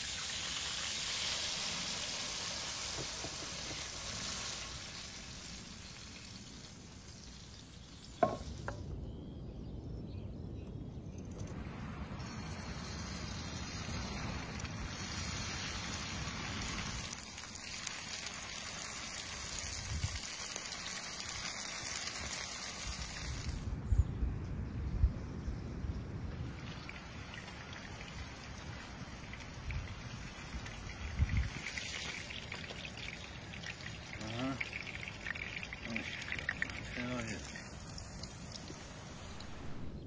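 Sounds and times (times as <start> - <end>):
meat sizzling in oil: 0.0 - 8.7, 12.2 - 23.6, 27.0 - 39.7
hot liquid pouring and hissing: 0.0 - 8.9, 11.4 - 23.7, 26.0 - 40.0.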